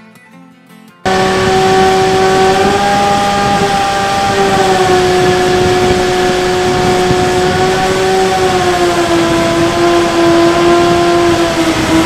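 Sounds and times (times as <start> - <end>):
electric motor and propeller whining: 1.1 - 12.0
wind rushing: 1.1 - 12.0.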